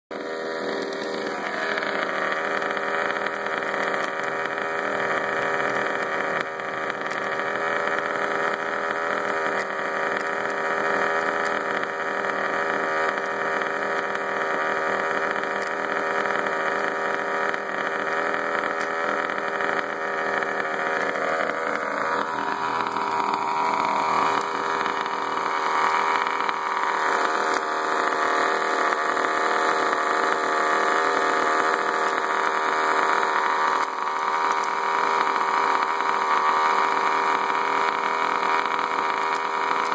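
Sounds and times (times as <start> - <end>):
two-stroke engine idling: 0.1 - 39.9.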